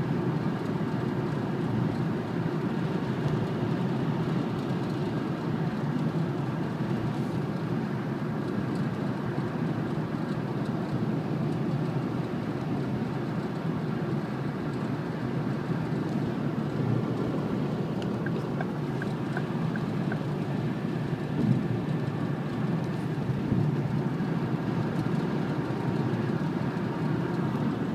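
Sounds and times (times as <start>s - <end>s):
car road and engine drone: 0.0s - 27.9s.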